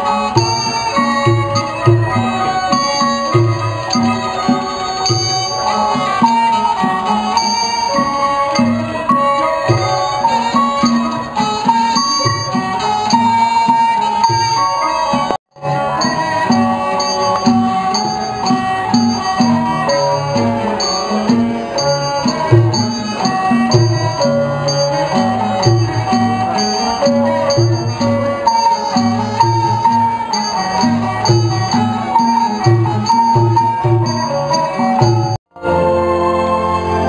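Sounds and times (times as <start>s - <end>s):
traditional ensemble music: 0.0s - 37.0s.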